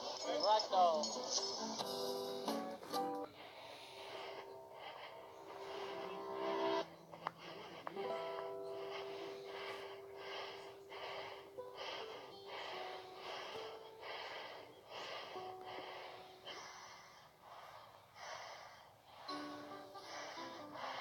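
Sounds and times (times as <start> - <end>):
person breathing fast and hard: 0.0 - 0.5, 3.3 - 21.0
faint music: 0.0 - 21.0.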